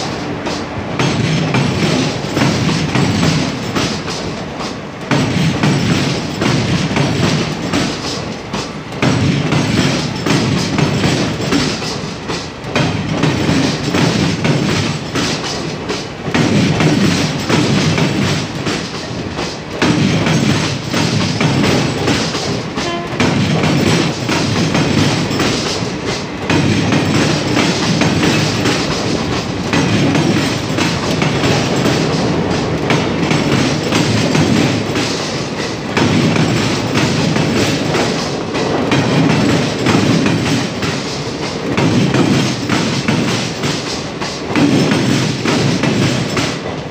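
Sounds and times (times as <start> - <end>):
train wheels clattering over rail joints: 0.0 - 46.9.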